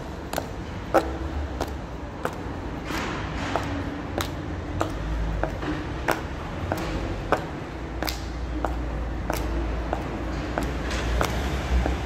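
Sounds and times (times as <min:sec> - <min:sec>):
high heels clicking on asphalt: 0:00.0 - 0:12.0.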